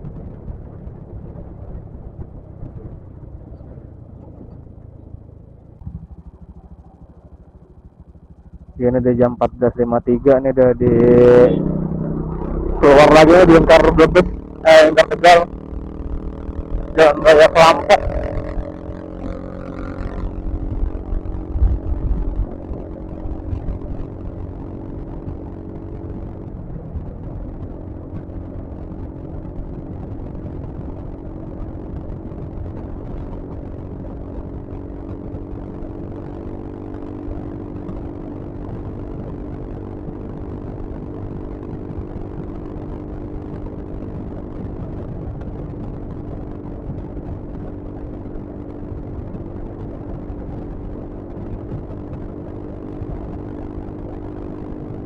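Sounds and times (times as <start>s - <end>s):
scooter engine droning: 0.0s - 55.0s
wind rumble on microphone: 0.0s - 55.0s.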